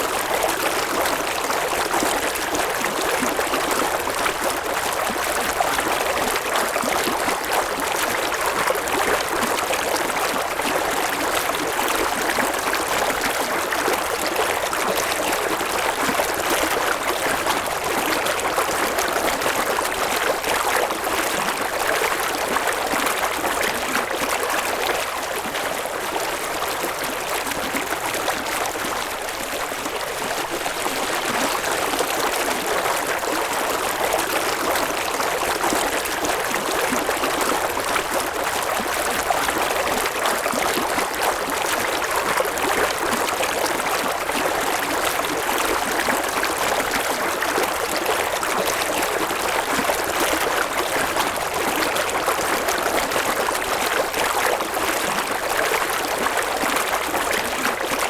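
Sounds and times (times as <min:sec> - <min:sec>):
river water flowing and babbling: 0:00.0 - 0:58.0.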